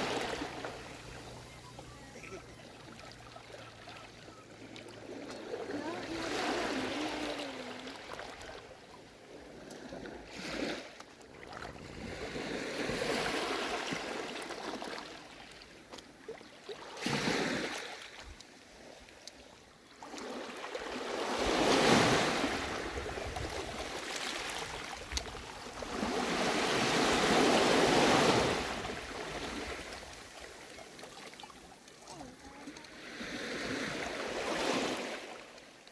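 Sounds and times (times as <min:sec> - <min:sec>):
sea waves breaking: 0:00.0 - 0:15.4, 0:16.4 - 0:18.2, 0:20.0 - 0:35.8.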